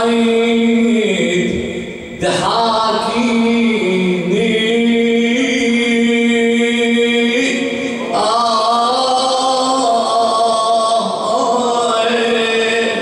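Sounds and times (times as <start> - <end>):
man chanting into a microphone: 0.0 - 13.0.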